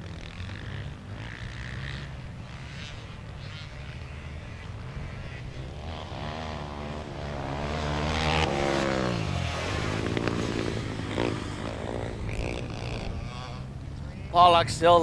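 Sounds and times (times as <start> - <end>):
quad passing by: 0.0 - 15.0
racing quad engines: 0.0 - 15.0.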